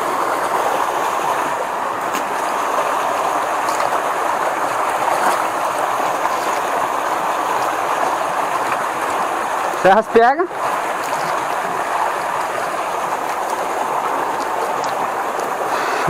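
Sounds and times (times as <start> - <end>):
creek water rushing: 0.0 - 16.0
water sloshing from wading: 0.0 - 16.0.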